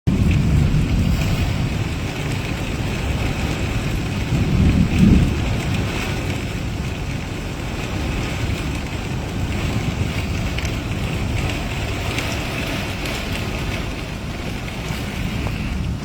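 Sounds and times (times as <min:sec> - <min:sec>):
heavy rain falling: 0:00.0 - 0:16.0
low rumble: 0:00.1 - 0:16.0.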